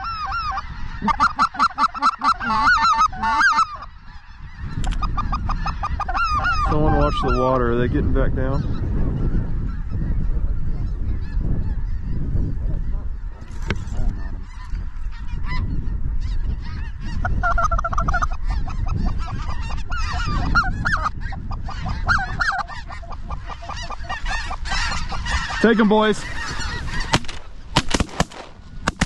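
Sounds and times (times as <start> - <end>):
geese honking: 0.0 - 29.0.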